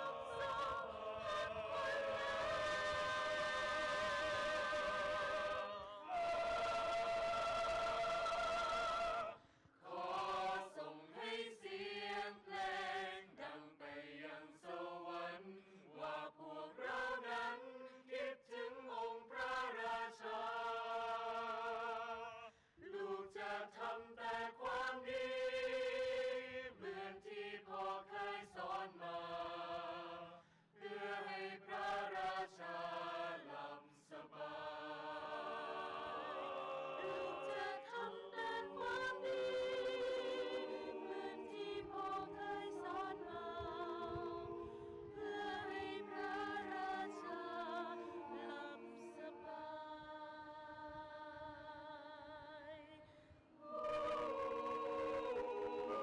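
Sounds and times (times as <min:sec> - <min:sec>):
mixed choir singing in harmony: 0:00.0 - 0:51.4, 0:53.6 - 0:56.0.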